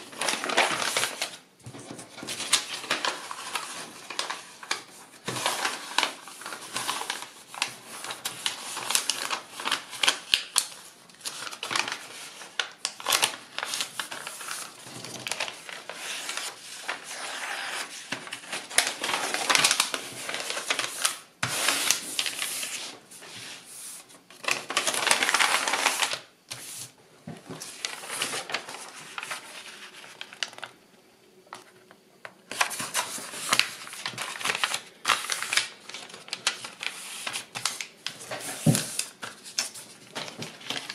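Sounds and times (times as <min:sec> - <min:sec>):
paper rustling and crackling: 0:00.0 - 0:30.8, 0:31.5 - 0:40.9.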